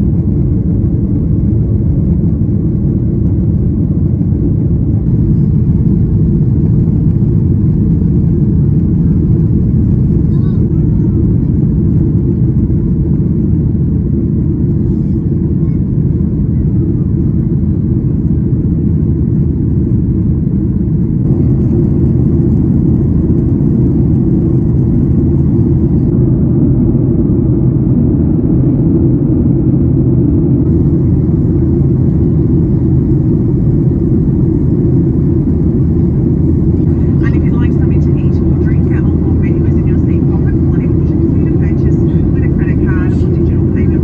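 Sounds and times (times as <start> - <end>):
jet engine rumble in cabin: 0.0 - 44.0.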